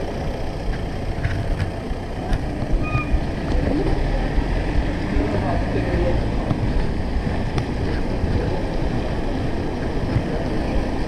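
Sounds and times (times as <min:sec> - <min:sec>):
traffic: 0:00.0 - 0:11.0
tyres on wet street: 0:00.0 - 0:11.0
wind rumble on microphone: 0:00.7 - 0:11.0.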